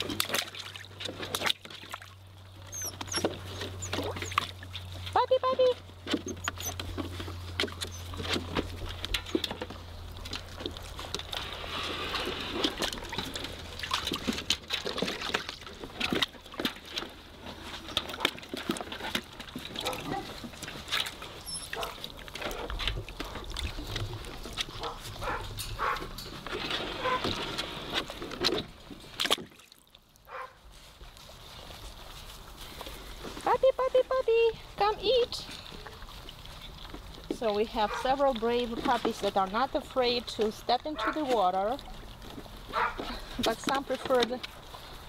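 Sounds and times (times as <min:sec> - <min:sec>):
puppies eating from metal tub: 0:00.0 - 0:45.0
water sloshing: 0:00.0 - 0:45.0.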